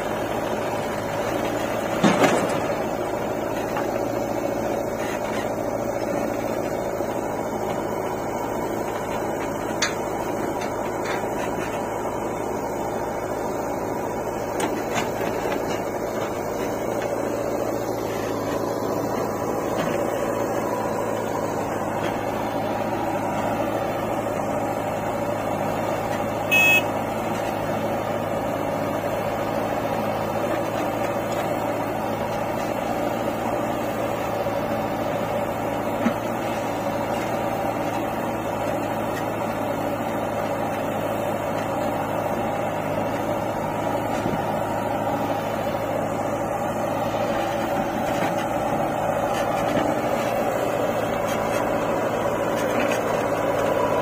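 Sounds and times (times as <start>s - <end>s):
diesel engines droning: 0.0s - 54.0s.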